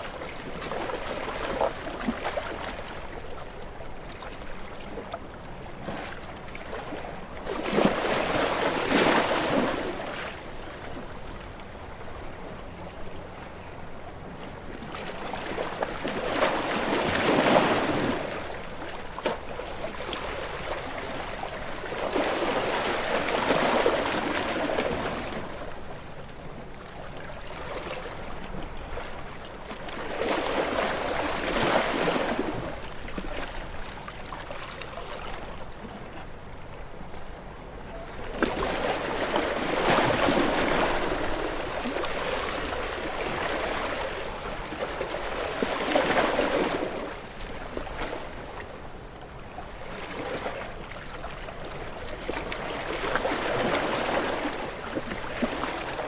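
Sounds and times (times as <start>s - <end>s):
ocean waves breaking: 0.0s - 36.8s, 38.1s - 49.0s, 49.6s - 56.0s.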